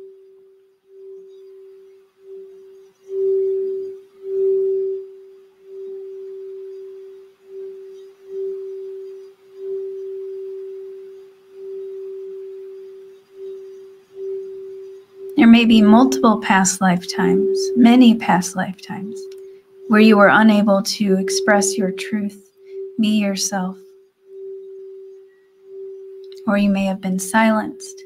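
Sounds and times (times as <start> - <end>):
singing bowl strokes: 0.0 - 28.0
singing bowl tone: 0.0 - 28.0.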